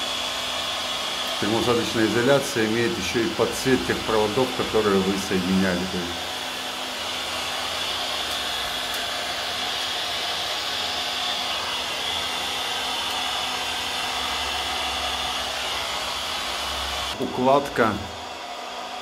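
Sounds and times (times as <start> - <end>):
heat gun blowing: 0.0 - 19.0.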